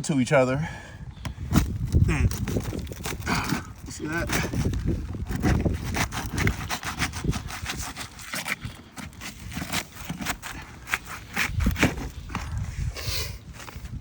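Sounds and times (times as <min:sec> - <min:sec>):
shingles crackling and tearing: 0:01.4 - 0:14.0
bar scraping under shingles: 0:01.5 - 0:12.8.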